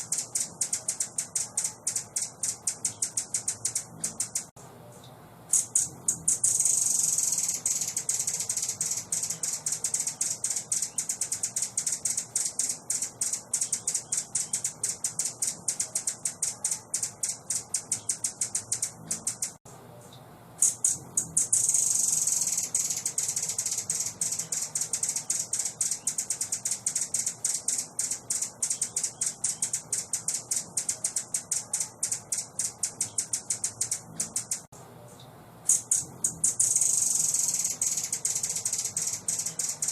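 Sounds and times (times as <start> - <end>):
bird chattering trill: 0.0 - 4.5, 5.5 - 19.6, 20.6 - 34.7, 35.7 - 39.9.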